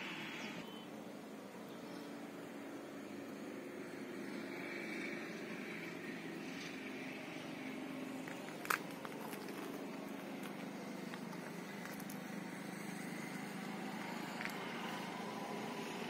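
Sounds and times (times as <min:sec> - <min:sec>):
low hum of vehicle engines: 0:00.0 - 0:16.0.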